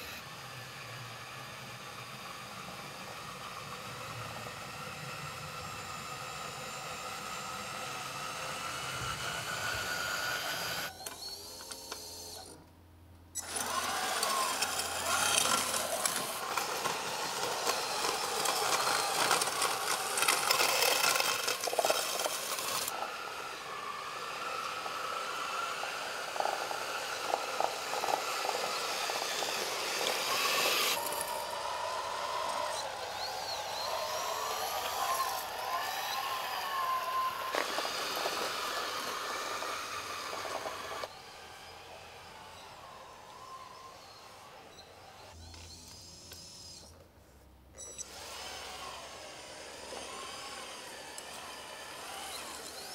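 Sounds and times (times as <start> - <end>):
rc tractor motor whining and rattling: 0.0 - 12.7, 13.3 - 47.1, 47.8 - 52.9.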